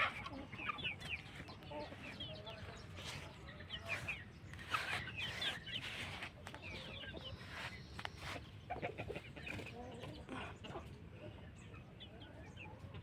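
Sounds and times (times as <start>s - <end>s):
poultry chirping: 0.0s - 13.0s
poultry clucking: 0.0s - 13.0s.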